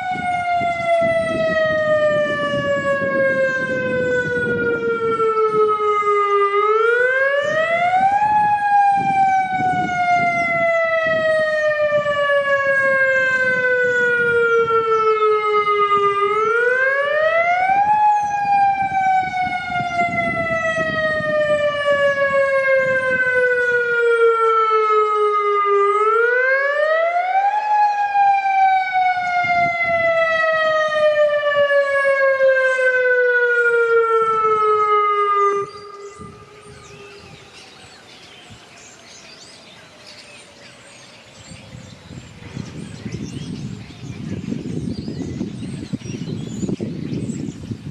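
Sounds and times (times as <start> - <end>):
warning siren wailing: 0.0 - 47.9.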